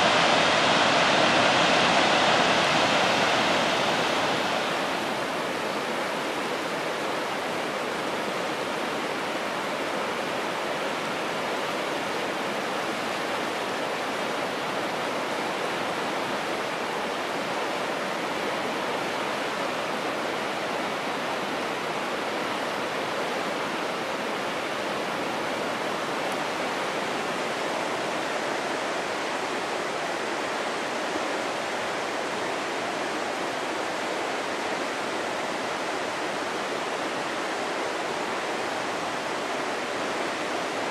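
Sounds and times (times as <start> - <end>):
fast-flowing stream water: 0.0 - 40.9.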